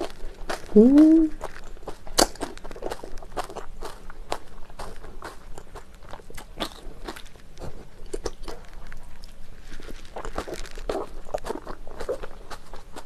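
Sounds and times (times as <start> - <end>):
close chewing with crunches: 0.0 - 13.0.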